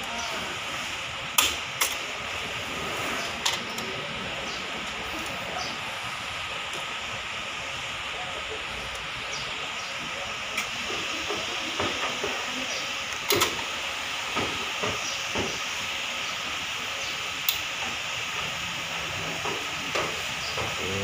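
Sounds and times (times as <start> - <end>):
workshop background hiss: 0.0 - 21.0.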